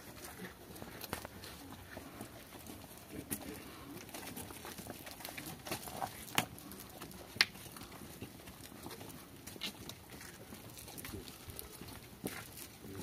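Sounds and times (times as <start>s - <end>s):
crowd footsteps shuffling: 0.0s - 13.0s.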